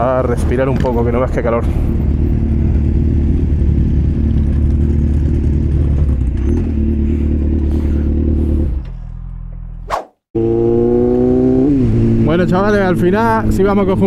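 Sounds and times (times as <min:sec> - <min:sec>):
motorcycle running at low revs: 0:00.0 - 0:14.0.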